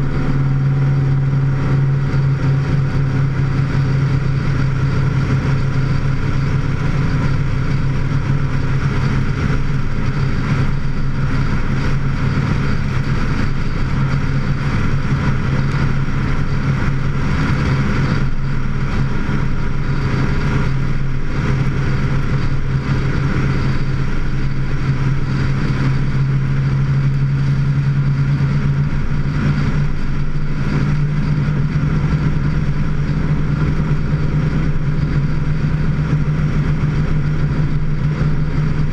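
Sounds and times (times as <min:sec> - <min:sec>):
vehicle engine humming: 0:00.0 - 0:38.9
wind and road noise: 0:00.0 - 0:38.9.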